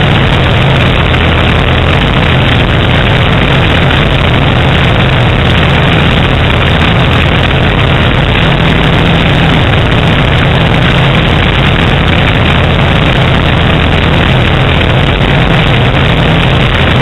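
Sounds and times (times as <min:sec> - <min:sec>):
heavy rush of airflow: 0:00.0 - 0:17.0
propeller plane engine drone: 0:00.0 - 0:17.0.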